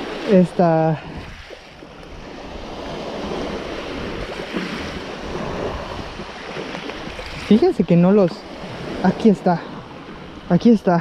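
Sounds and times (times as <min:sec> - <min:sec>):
surf washing on shore: 0:00.0 - 0:11.0
wind on microphone: 0:00.0 - 0:11.0.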